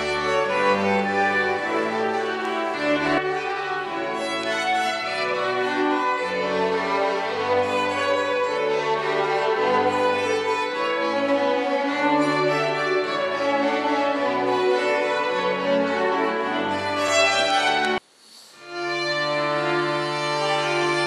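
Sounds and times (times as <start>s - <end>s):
violins playing sustained notes: 0.0s - 18.0s, 18.6s - 21.0s.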